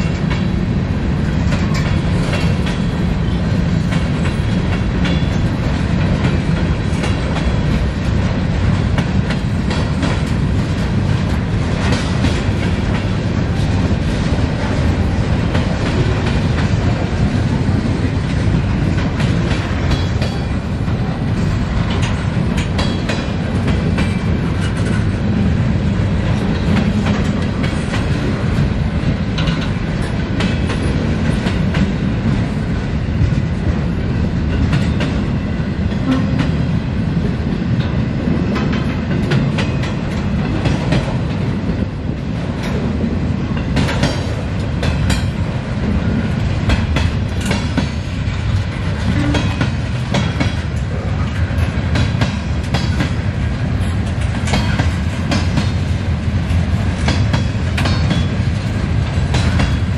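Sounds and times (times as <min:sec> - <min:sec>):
clickety-clack on rail joints: 0:00.0 - 0:59.9
steel wheels rumbling on rail: 0:00.0 - 0:59.9.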